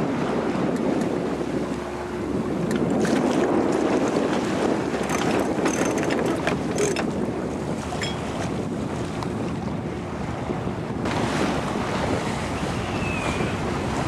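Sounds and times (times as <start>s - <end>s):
water rushing past hull: 0.0s - 14.0s
wind buffeting microphone: 0.0s - 14.0s.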